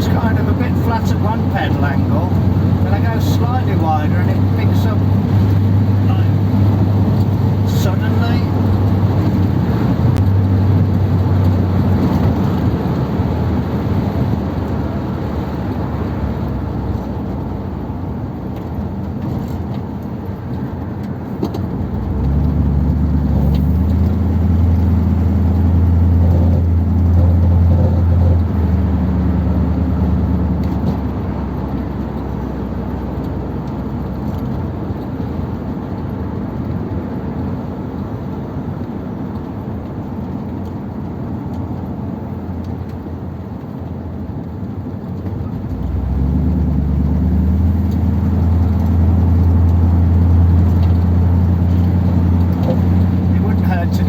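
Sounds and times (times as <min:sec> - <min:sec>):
car engine: 0:00.0 - 0:54.0
road noise inside car: 0:00.0 - 0:54.0.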